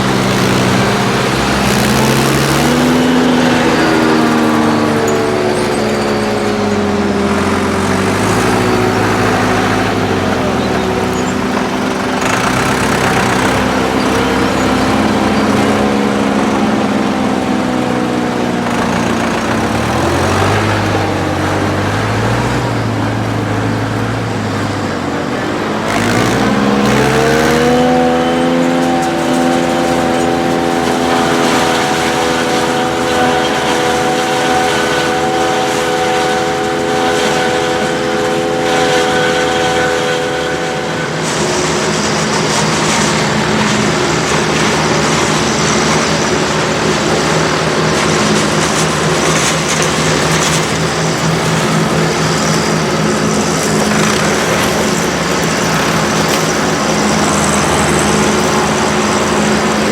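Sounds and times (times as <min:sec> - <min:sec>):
diesel tractor engine under load: 0:00.0 - 0:59.9.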